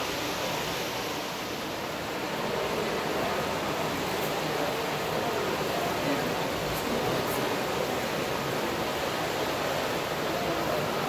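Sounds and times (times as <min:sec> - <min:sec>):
indoor hall background noise: 0:00.0 - 0:11.0.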